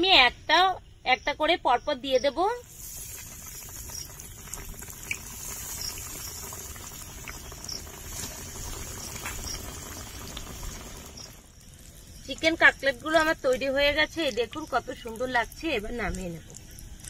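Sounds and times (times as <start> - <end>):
oil sizzling with pops: 2.2 - 17.0.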